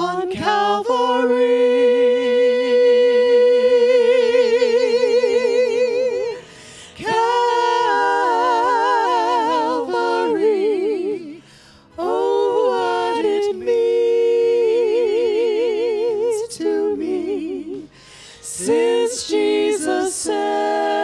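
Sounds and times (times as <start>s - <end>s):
women singing in harmony: 0.0s - 21.0s.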